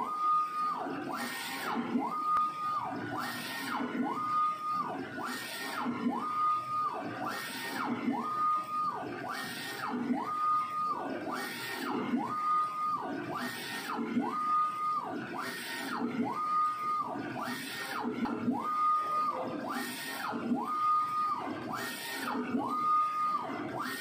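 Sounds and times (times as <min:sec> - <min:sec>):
drive motor whining: 0:00.0 - 0:24.0.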